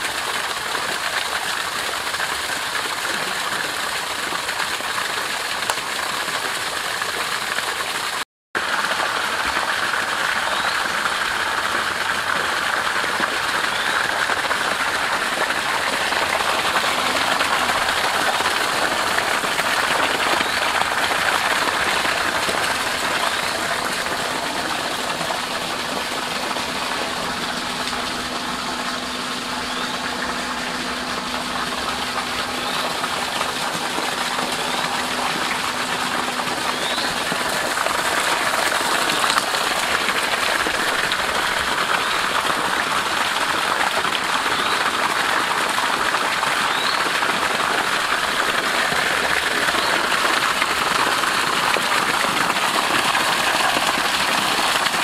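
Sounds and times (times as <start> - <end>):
water gushing and splashing: 0.0 - 55.0.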